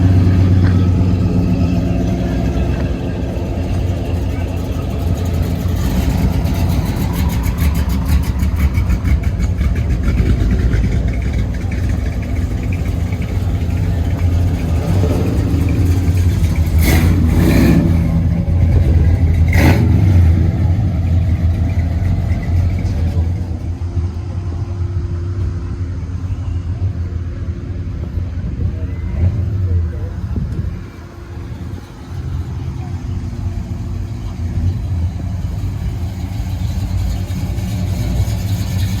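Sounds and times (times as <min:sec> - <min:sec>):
car engine exhaust rumble: 0:00.0 - 0:39.0.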